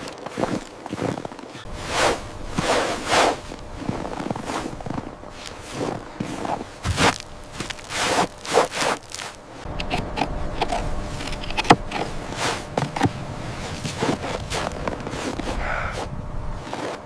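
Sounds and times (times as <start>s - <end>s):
crunching and scraping strokes: 0.0s - 17.0s.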